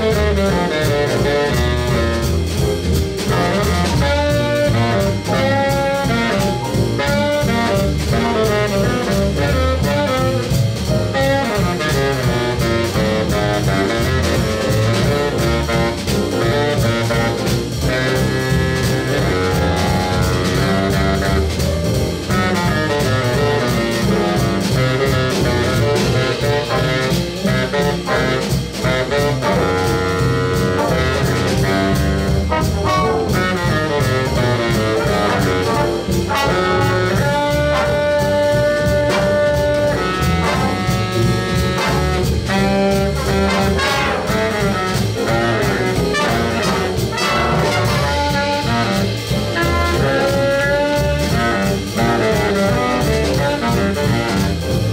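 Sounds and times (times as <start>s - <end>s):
jazz big band playing: 0.0s - 54.9s.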